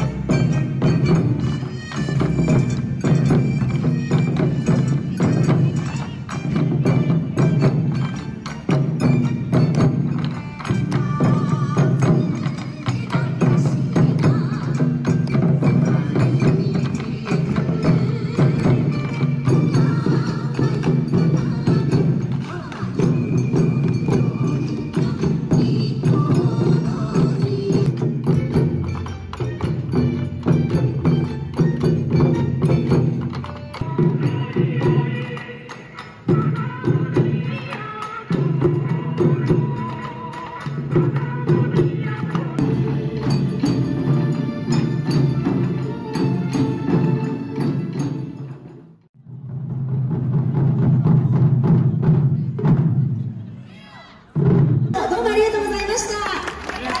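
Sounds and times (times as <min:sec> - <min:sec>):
wind instrument melody: 0:00.0 - 0:48.8
folk dance tune: 0:00.0 - 0:49.0
sharp percussion strikes: 0:00.0 - 0:53.4
taiko drums: 0:00.0 - 0:57.0.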